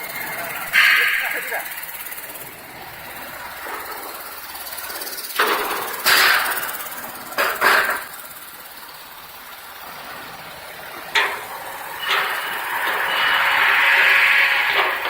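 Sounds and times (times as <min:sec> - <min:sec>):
steady machine noise: 0:00.0 - 0:15.0.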